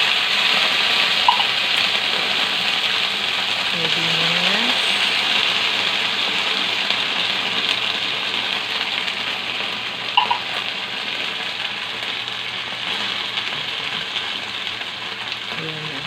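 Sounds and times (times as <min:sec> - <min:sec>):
fish sizzling in hot oil: 0:00.0 - 0:15.9.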